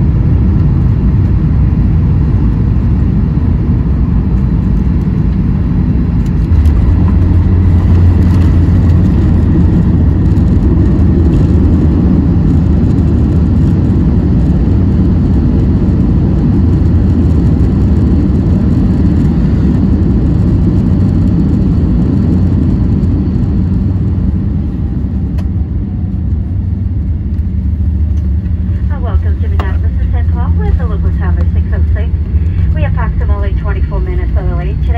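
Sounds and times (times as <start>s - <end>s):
deep rumble of jet landing: 0.0s - 34.9s.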